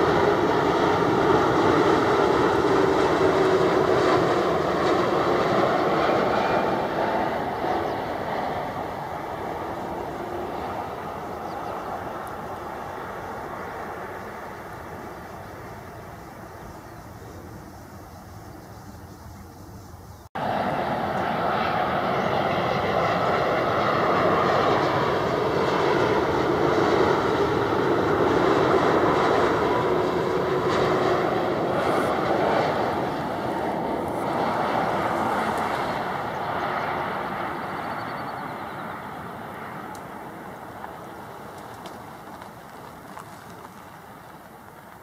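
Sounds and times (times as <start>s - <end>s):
distant airliner noise: 0.0s - 45.0s
jet airliner passing overhead: 0.0s - 45.0s.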